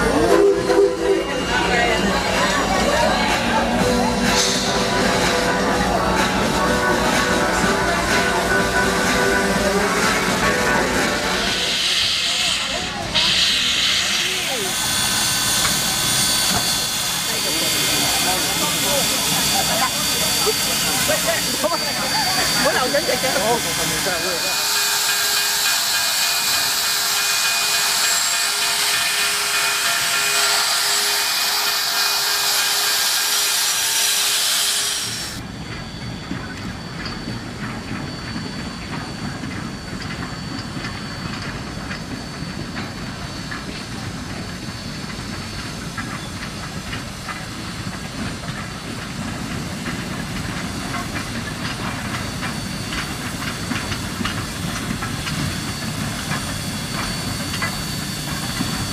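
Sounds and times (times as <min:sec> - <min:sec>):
steam locomotive venting steam: 0:00.0 - 0:58.9
train rumbling along track: 0:00.0 - 0:58.9.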